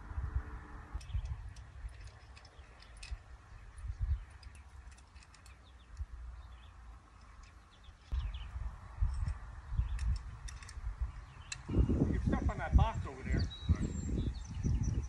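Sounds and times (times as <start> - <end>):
wind buffeting microphone: 0.0 - 6.7, 7.8 - 15.0.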